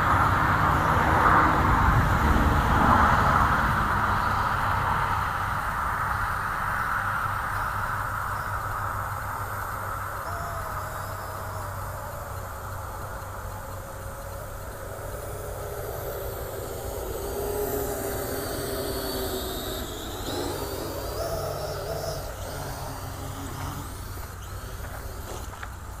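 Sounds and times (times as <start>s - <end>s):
quadcopter rotors whirring: 0.0s - 26.0s.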